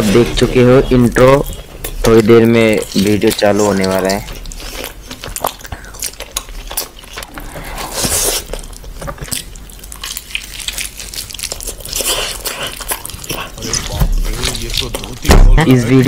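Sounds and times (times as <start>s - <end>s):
fingers squishing through rice: 0.0s - 15.3s
wet chewing and lip smacking: 0.0s - 16.0s.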